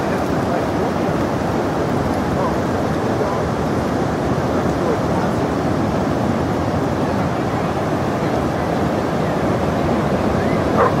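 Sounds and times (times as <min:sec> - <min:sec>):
ocean surf washing ashore: 0:00.0 - 0:11.0
wind noise on microphone: 0:00.0 - 0:11.0.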